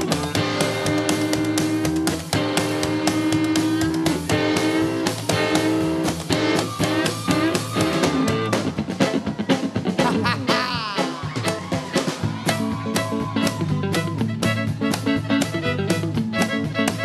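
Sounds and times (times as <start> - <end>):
bass guitar: 0.0 - 17.0
drum kit: 0.0 - 17.0
electric guitar with sliding notes: 0.0 - 17.0.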